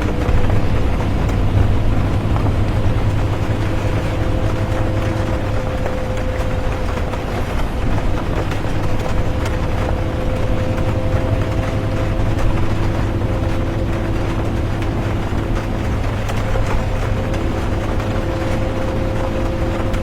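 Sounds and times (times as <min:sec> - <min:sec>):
bus engine and road rumble: 0:00.0 - 0:20.0
droning hum: 0:00.0 - 0:20.0
rain and tyre hiss: 0:00.0 - 0:20.0.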